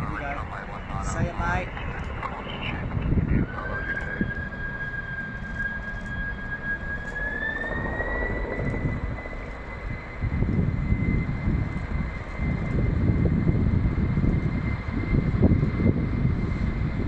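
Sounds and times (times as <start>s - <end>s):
high engine whine: 0.0s - 17.0s
jet engine roar: 0.0s - 17.0s
low rumble: 0.0s - 17.0s.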